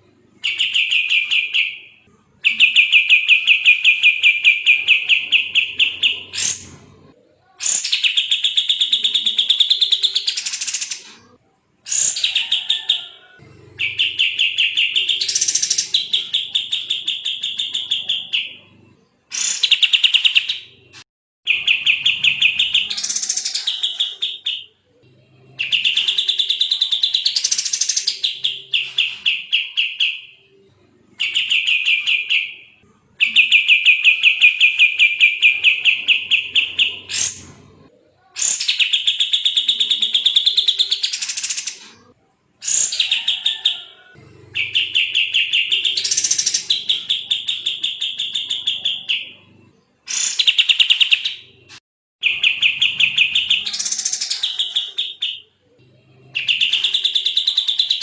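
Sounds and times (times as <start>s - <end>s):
bulbul chattering song: 0.0s - 6.8s, 7.4s - 11.2s, 11.9s - 37.6s, 38.2s - 58.0s.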